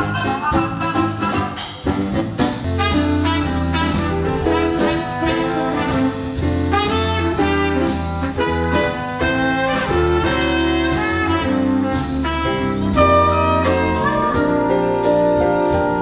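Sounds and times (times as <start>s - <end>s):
jazz band playing: 0.0s - 16.0s
low bass line: 0.0s - 16.0s.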